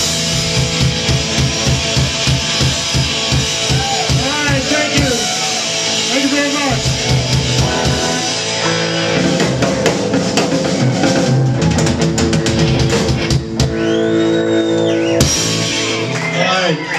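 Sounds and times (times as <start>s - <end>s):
drum kit: 0.0s - 16.5s
bass guitar: 0.0s - 16.9s
electric guitar: 0.0s - 16.9s.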